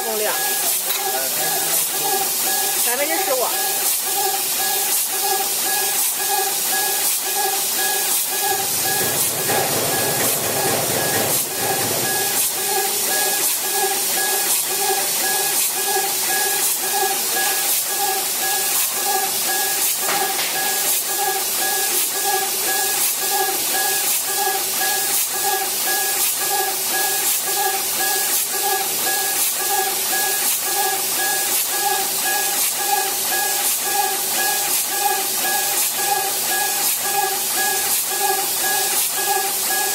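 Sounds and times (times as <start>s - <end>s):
laser engraver hiss and motor whine: 0.0s - 39.9s.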